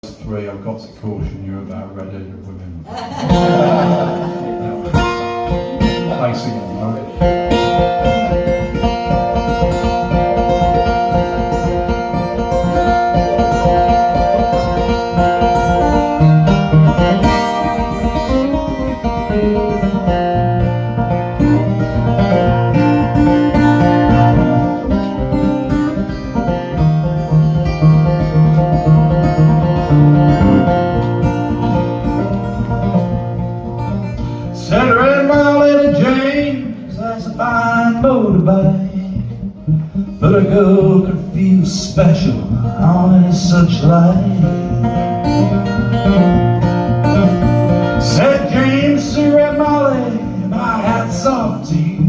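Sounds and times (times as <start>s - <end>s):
acoustic guitar playing: 0.0s - 52.0s.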